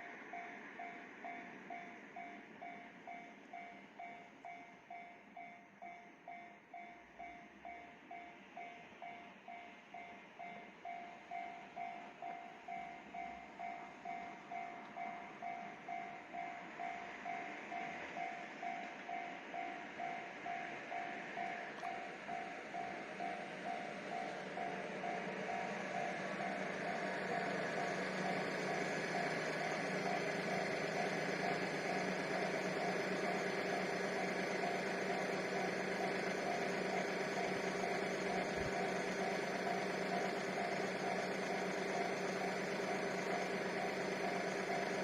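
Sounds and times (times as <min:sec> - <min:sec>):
level crossing warning bell: 0:00.0 - 0:45.0
train rumble on rails: 0:00.0 - 0:45.0.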